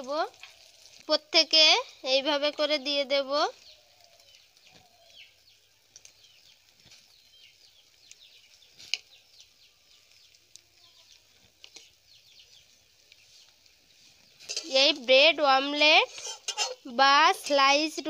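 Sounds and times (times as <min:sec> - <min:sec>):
egg and bread sizzling in oil: 0:00.0 - 0:18.0.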